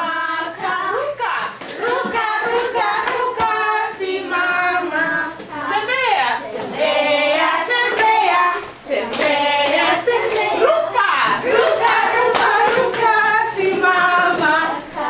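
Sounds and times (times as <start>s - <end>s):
children singing: 0.0s - 15.0s.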